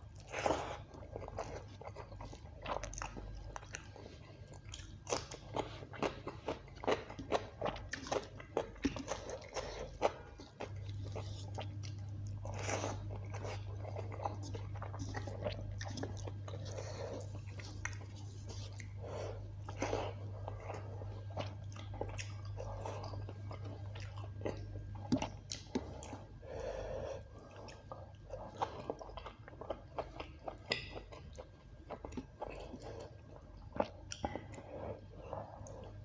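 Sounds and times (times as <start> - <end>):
low background hum: 0.0 - 36.0
person chewing food: 0.0 - 36.0.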